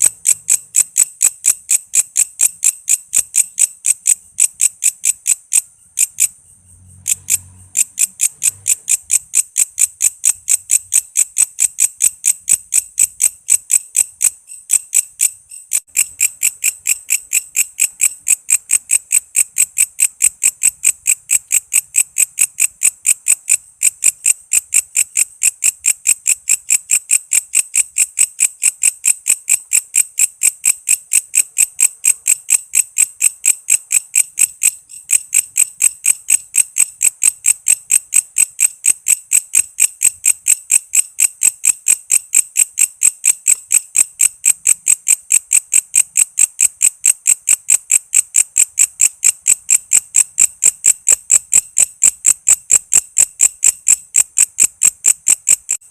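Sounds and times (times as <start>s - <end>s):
insect chirping high-pitched: 0.0s - 55.9s.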